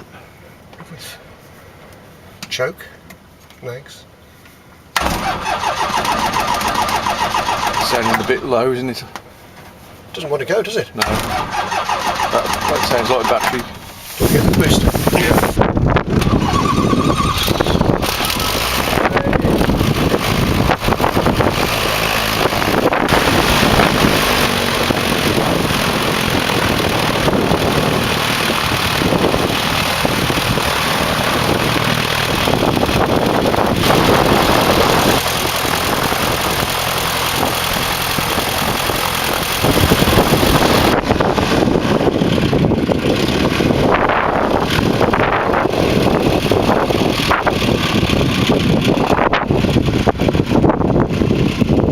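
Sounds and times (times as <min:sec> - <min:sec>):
propeller aircraft engine running: 0:05.0 - 0:08.6, 0:11.0 - 0:51.9.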